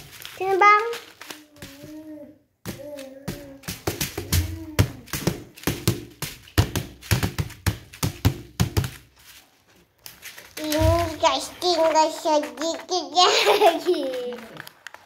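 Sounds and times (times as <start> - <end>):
fingertips tapping plastic stickers: 0.0 - 9.1, 10.0 - 15.0.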